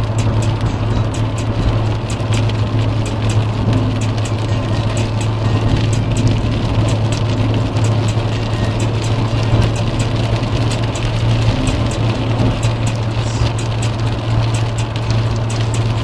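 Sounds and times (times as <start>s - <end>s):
engine and tyres on wet road: 0.0s - 16.0s
rain ticking on windscreen: 0.0s - 16.0s.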